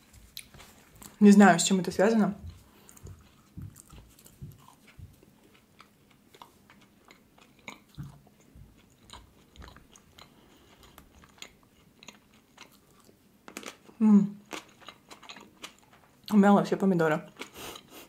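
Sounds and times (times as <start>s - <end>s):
faint chewing: 0.0s - 1.2s, 2.3s - 16.4s, 17.2s - 18.0s.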